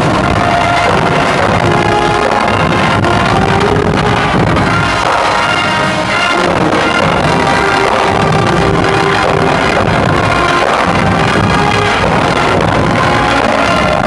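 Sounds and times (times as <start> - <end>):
marching band drums: 0.0 - 14.0
marching band horns: 0.0 - 14.0.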